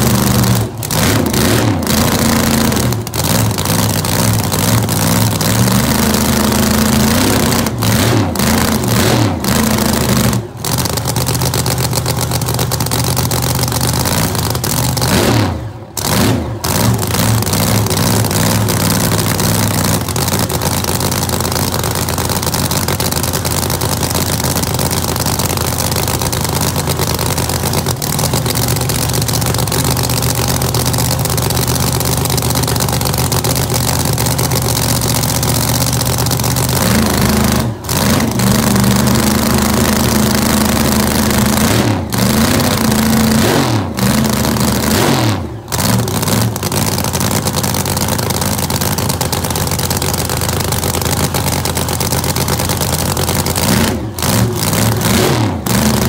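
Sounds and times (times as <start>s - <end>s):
loud race engine running: 0.0s - 56.0s.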